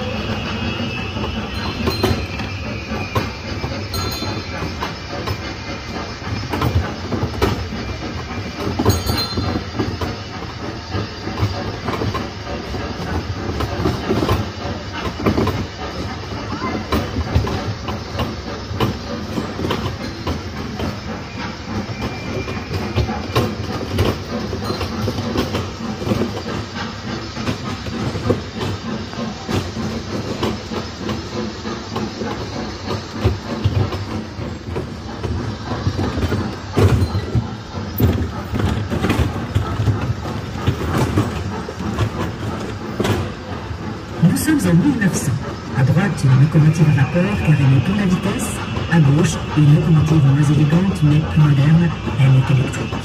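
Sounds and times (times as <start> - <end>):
train wheels clicking on rails: 0.0 - 53.0.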